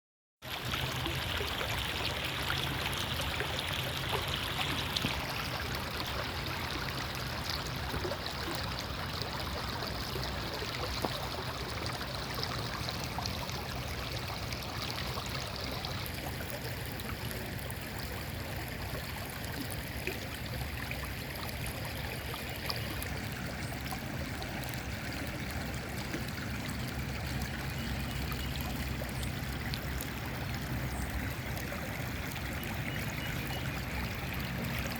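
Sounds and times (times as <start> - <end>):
creek water running: 0.4 - 34.9.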